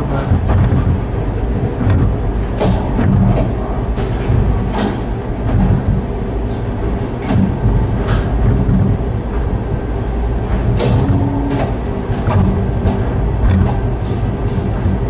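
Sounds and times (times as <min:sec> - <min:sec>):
tram low rumble and hum: 0:00.0 - 0:15.0.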